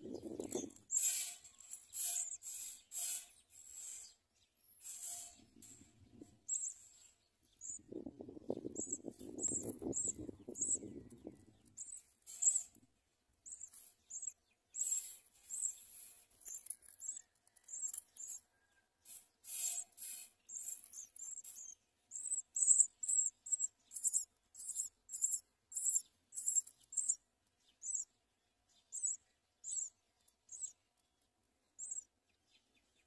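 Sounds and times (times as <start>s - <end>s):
songbird chirping: 0.0s - 18.9s, 19.8s - 33.0s.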